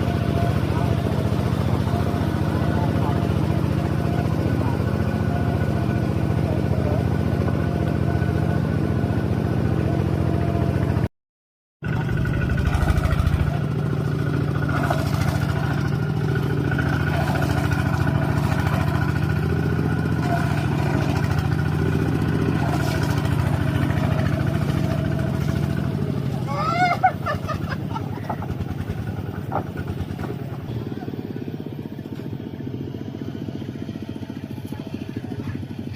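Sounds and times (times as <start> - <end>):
vehicle engine running: 0.0 - 11.1, 11.8 - 35.9.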